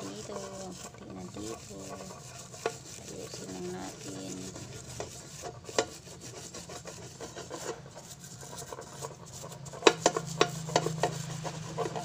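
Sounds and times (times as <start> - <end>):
metal pan scraping on surface: 0.0 - 12.0.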